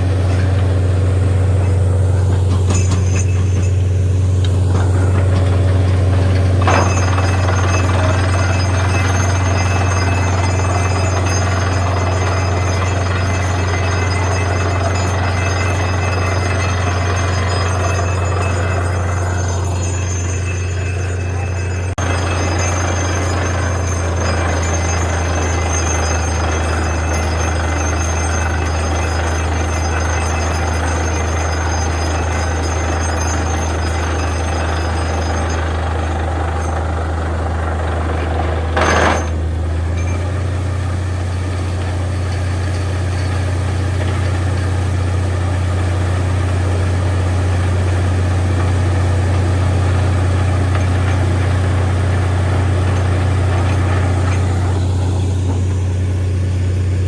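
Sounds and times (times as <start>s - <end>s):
drilling rig diesel engine: 0.0s - 57.0s.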